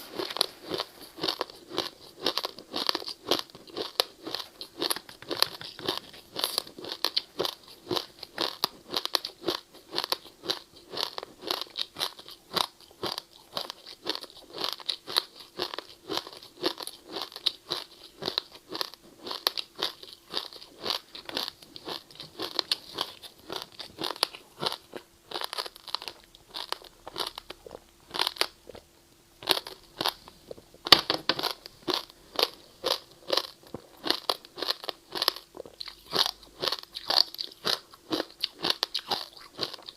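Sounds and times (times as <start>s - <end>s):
ice crunching and chewing: 0.1s - 30.7s, 31.3s - 39.9s.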